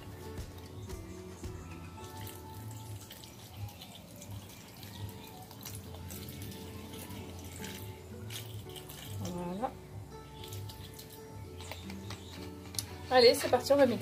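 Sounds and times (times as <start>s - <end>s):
water pouring into plastic jar: 0.0s - 13.0s
background music: 0.0s - 14.0s.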